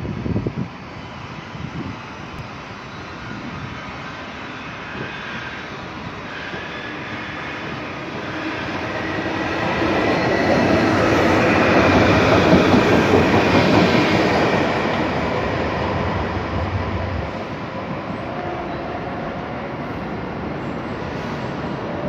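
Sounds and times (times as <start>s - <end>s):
electric train passing on rails: 0.0s - 22.0s.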